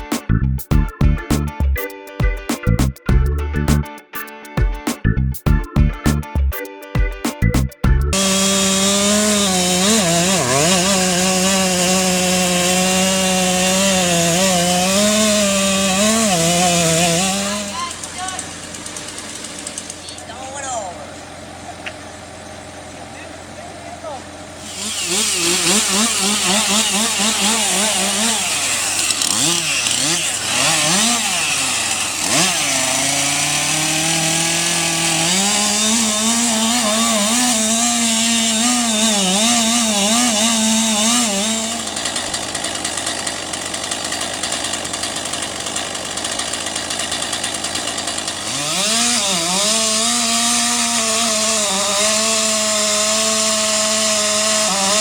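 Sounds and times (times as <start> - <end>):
chainsaw cutting wood: 0.0 - 3.9, 5.6 - 55.0.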